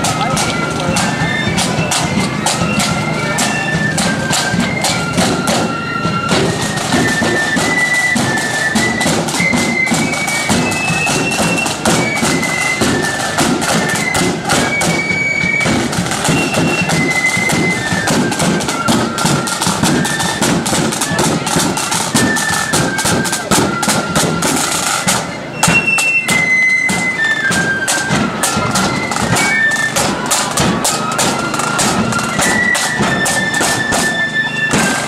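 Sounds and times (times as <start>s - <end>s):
flutes playing melody: 0.0s - 35.0s
snare drums: 0.0s - 35.0s.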